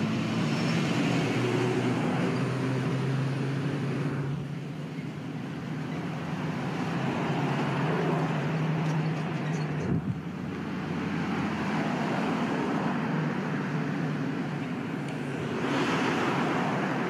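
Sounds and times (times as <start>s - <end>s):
vehicles driving along street: 0.0s - 17.0s.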